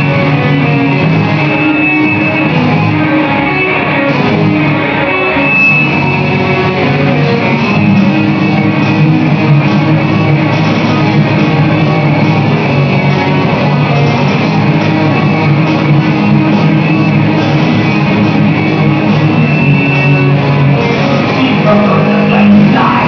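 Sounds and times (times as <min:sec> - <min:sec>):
distorted electric guitar riffs: 0:00.0 - 0:23.0
keyboard playing: 0:00.0 - 0:23.0.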